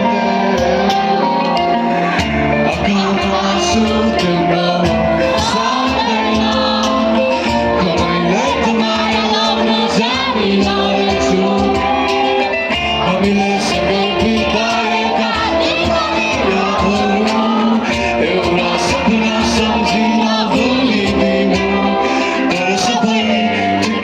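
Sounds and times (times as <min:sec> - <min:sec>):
live band with singer: 0:00.0 - 0:24.0.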